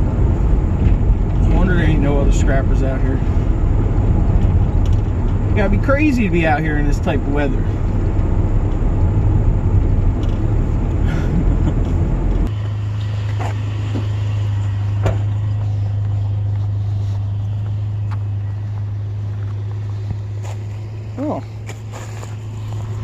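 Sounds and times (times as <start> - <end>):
low engine hum: 0.0 - 23.0
road noise rumble: 0.0 - 23.0.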